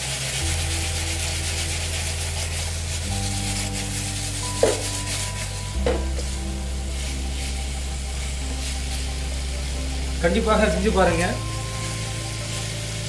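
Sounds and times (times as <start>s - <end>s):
background music with low chords: 0.0s - 13.0s
chicken sizzling in a pan: 0.0s - 13.0s.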